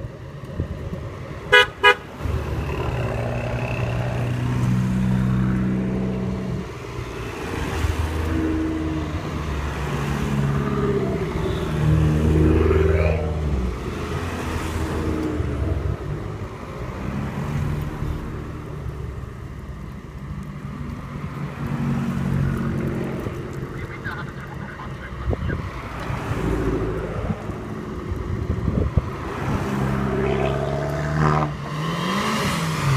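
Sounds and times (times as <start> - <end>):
cars driving past: 0.0 - 32.9.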